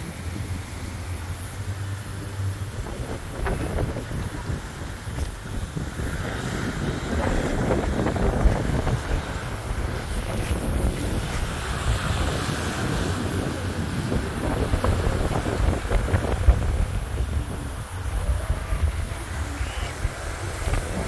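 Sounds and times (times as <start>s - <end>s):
small waves washing onto sand: 0.0s - 21.0s
wind buffeting microphone: 0.0s - 21.0s.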